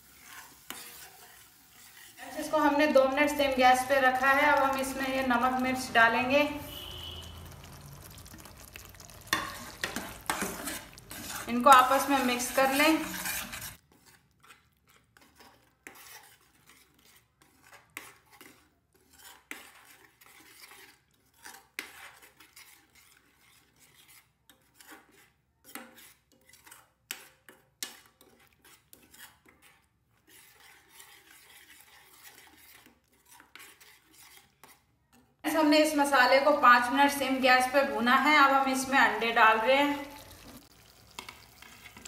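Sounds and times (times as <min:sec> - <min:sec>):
steel ladle scraping a metal pan: 0:00.0 - 0:07.5, 0:09.2 - 0:40.2, 0:41.0 - 0:42.0
masala frying: 0:00.0 - 0:42.0.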